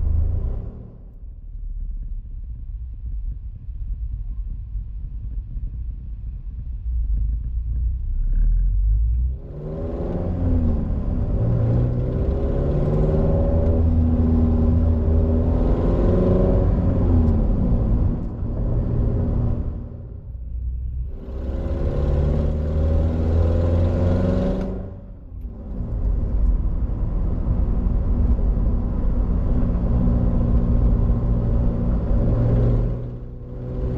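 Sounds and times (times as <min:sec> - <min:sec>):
road and engine rumble inside car: 0:00.0 - 0:33.9.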